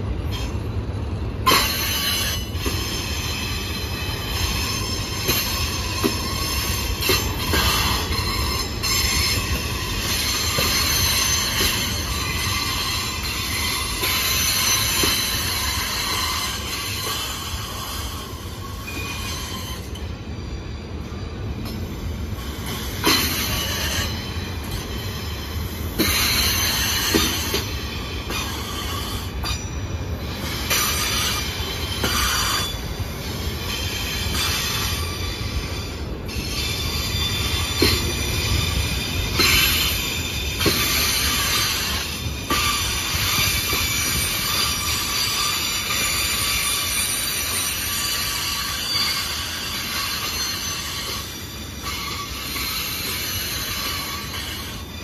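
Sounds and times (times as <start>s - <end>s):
train rumble: 0.0s - 55.0s
train wheels squealing: 0.0s - 55.0s.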